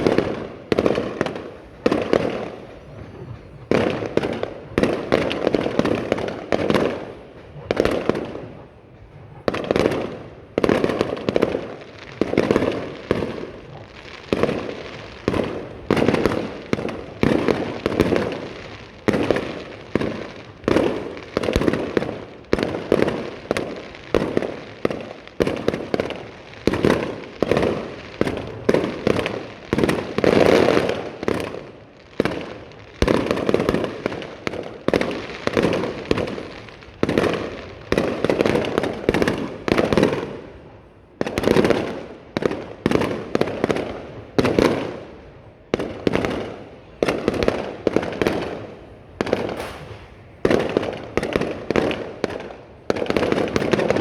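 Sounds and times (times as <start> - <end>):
fireworks bursting: 0.0 - 40.5, 45.7 - 54.0.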